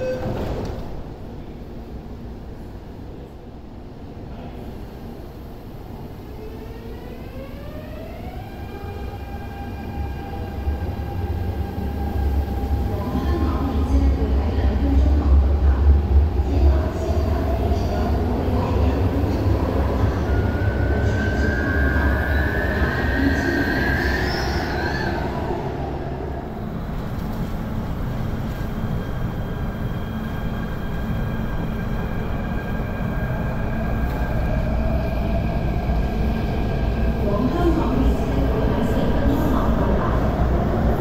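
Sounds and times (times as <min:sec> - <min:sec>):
metro train rumble: 0:00.0 - 0:41.0.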